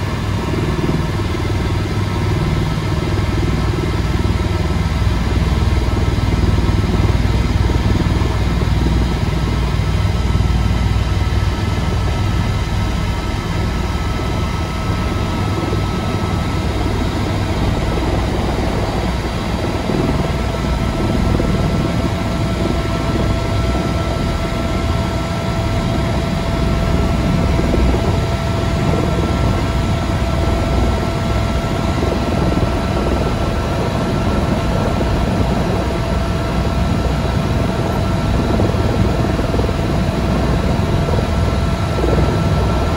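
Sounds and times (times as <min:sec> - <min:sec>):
helicopter rotor and turbine drone: 0:00.0 - 0:42.9
thin steady whine: 0:00.0 - 0:42.9.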